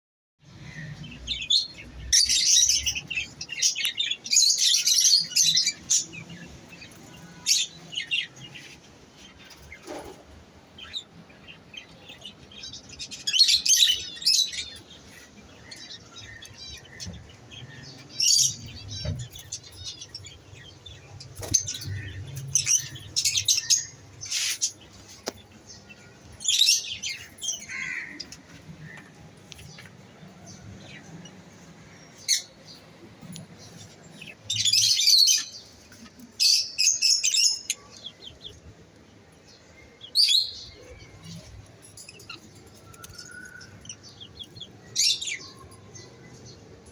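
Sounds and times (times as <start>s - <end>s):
lovebirds chirping: 0.4s - 46.9s.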